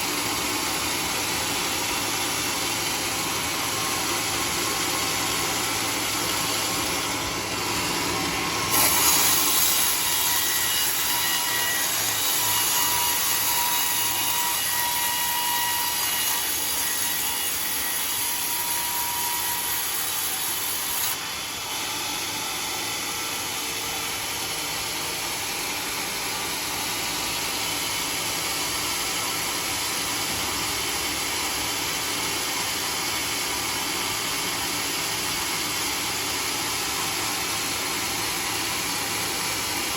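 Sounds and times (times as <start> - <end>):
sawmill machine running: 0.0 - 39.9
sawmill saw cutting log: 0.0 - 39.9.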